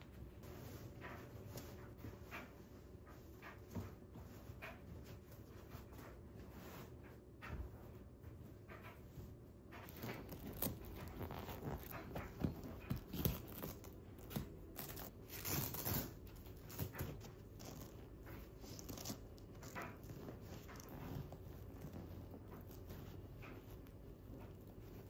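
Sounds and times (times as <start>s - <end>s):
fabric rustling and rubbing: 0.0s - 25.0s.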